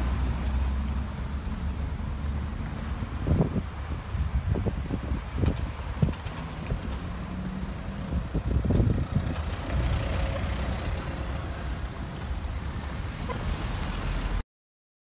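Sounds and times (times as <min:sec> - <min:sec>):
car engines running: 0:00.0 - 0:14.4
tyres rumbling over crossing: 0:00.0 - 0:14.4.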